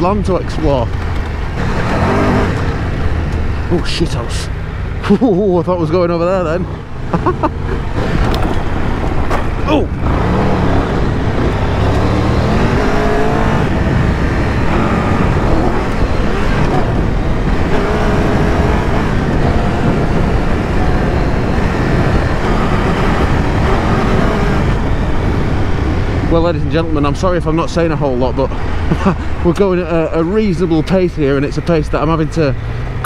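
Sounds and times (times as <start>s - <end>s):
motorcycle engine revving: 0.0s - 33.0s
road rumble: 0.0s - 33.0s
wind noise: 0.0s - 33.0s.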